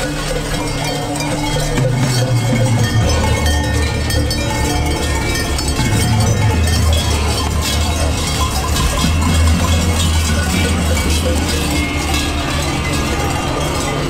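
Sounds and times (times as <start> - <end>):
large cowbells clanging: 0.0 - 14.0
low hum: 0.0 - 14.0.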